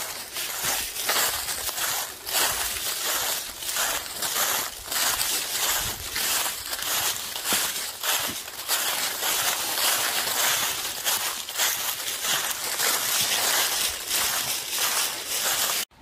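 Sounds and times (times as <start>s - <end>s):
footsteps through dry leaves: 0.0s - 15.9s.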